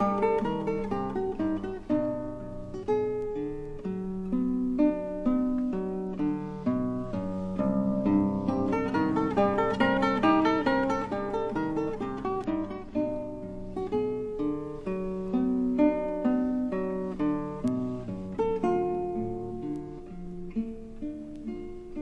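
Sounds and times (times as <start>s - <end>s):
acoustic guitar melody: 0.0s - 22.0s.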